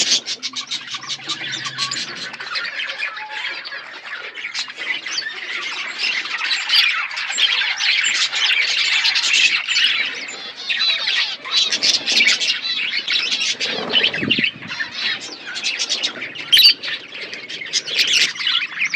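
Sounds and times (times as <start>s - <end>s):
budgerigars chattering and squawking: 0.0s - 18.9s.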